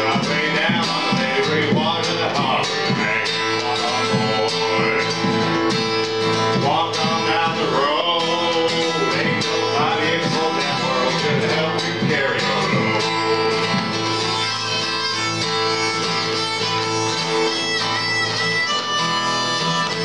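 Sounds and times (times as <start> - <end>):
acoustic guitar strumming: 0.0 - 20.0
hand percussion beat: 0.0 - 20.0
person singing: 0.0 - 20.0.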